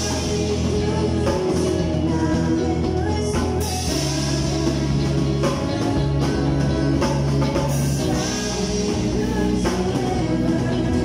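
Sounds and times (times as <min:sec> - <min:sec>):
amplified guitars: 0:00.0 - 0:11.0
drum kit with cymbals: 0:00.0 - 0:11.0
rock band playing: 0:00.0 - 0:11.0.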